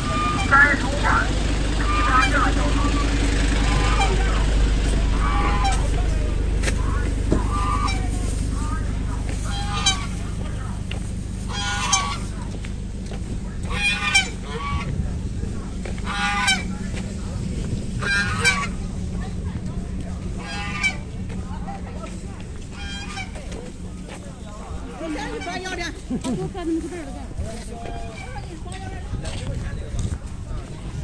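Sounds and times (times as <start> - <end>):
geese honking: 0.0 - 31.0
low rumble: 0.0 - 31.0.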